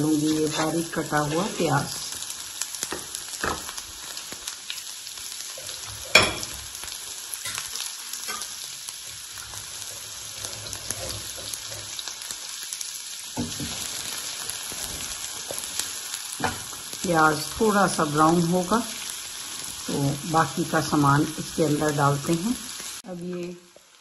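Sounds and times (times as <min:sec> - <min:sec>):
onion sizzling in oil: 0:00.0 - 0:24.0.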